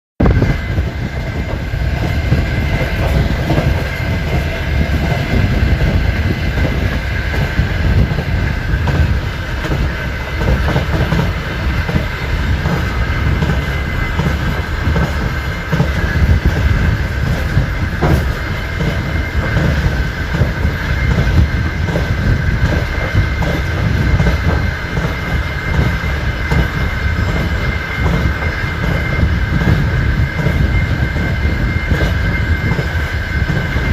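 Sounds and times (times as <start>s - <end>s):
train low rumble: 0.2s - 33.9s
train wheels clattering: 0.2s - 33.9s.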